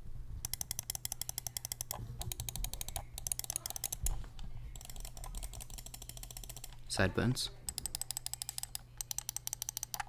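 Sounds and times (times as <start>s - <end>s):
mouse buttons clicking rapidly: 0.4s - 7.0s, 7.7s - 10.0s.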